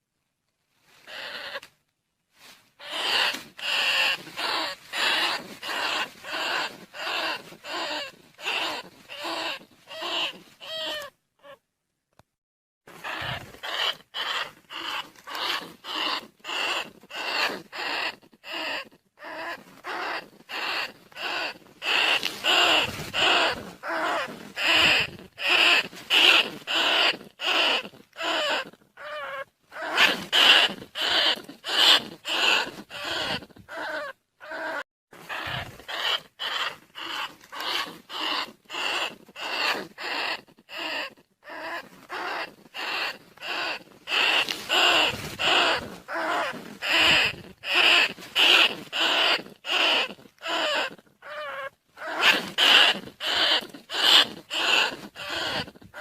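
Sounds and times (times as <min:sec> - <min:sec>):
rats squeaking: 0:01.1 - 0:01.7, 0:02.8 - 0:11.6, 0:12.9 - 0:56.0.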